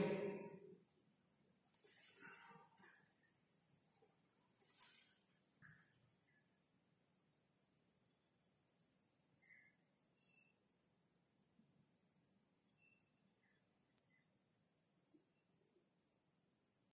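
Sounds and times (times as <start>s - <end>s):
faint high-pitched hiss: 0.0s - 16.9s.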